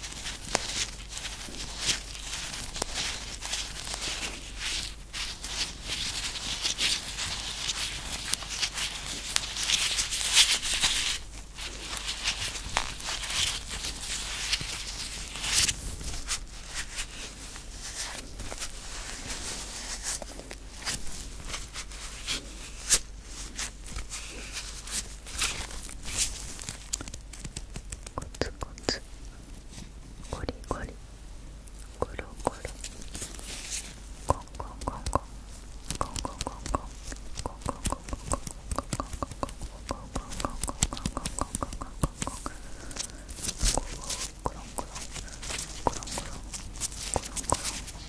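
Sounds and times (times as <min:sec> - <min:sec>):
rubber gloves rustling and snapping: 0:00.0 - 0:28.4, 0:31.6 - 0:48.0.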